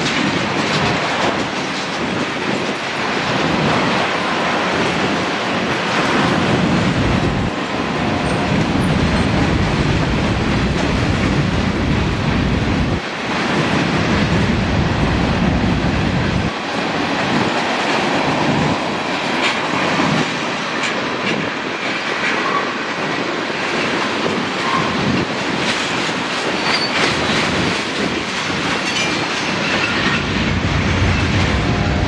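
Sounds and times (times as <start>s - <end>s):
freight train rumbling past: 0.0s - 32.0s
train wheels clicking over rail joints: 0.0s - 32.0s.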